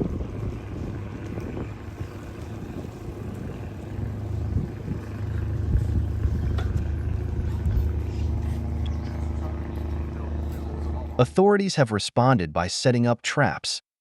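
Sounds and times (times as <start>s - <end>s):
low rumble: 0.0s - 11.3s.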